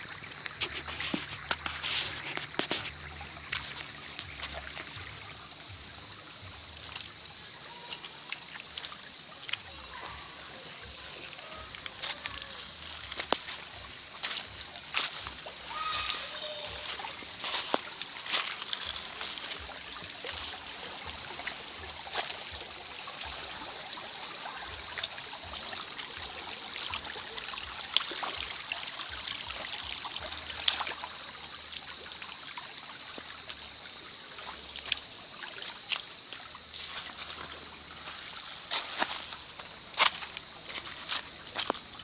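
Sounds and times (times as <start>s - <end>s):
creek babbling over stones: 0.0s - 42.0s
water splashes: 0.0s - 42.0s.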